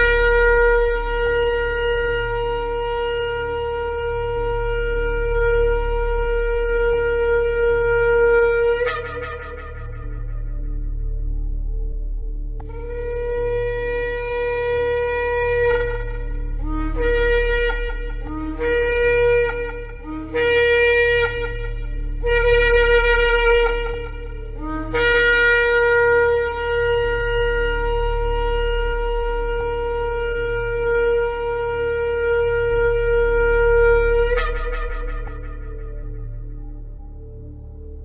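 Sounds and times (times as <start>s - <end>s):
shofar blasts: 0.0s - 12.0s, 12.6s - 38.0s
steady low hum: 0.0s - 38.0s.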